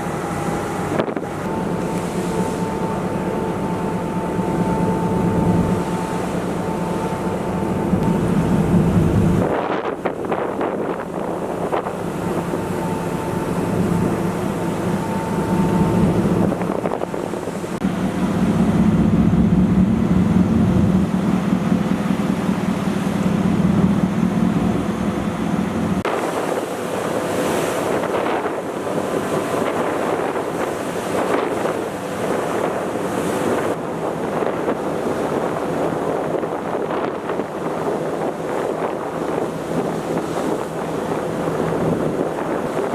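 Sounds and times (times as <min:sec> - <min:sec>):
water rushing: 0:00.0 - 0:19.1, 0:26.0 - 0:42.9
ferry engine drone: 0:00.0 - 0:42.9
wind buffeting microphone: 0:00.0 - 0:42.9.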